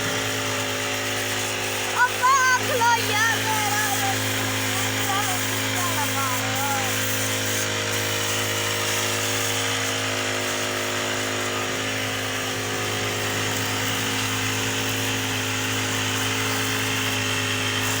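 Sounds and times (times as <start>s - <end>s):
small electric motor humming: 0.0s - 18.0s.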